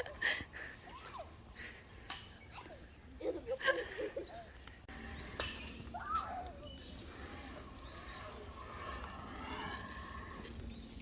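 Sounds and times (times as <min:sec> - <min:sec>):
distant voices: 0:00.0 - 0:11.0
outdoor background noise: 0:00.0 - 0:11.0.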